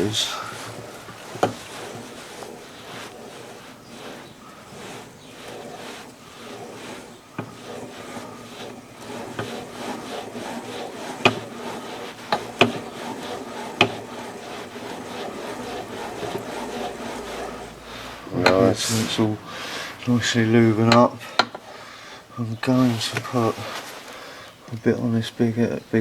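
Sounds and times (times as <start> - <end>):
crankshaft rubbing whir: 0.0 - 26.0.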